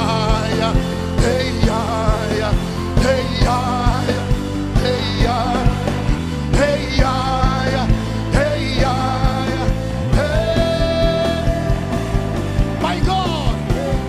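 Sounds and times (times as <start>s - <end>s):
band playing worship music: 0.0s - 14.0s
person singing: 0.0s - 14.0s.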